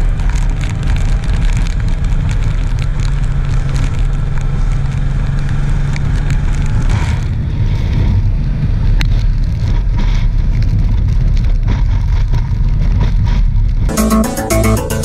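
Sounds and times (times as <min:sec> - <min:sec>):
wet road noise: 0:00.0 - 0:12.6
wind rush on microphone: 0:00.0 - 0:13.9.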